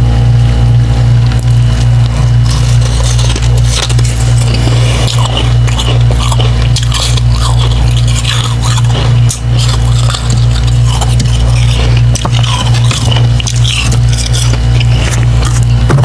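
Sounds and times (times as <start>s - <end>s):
steady low hum: 0.0s - 16.0s
ice being chewed: 1.3s - 16.0s.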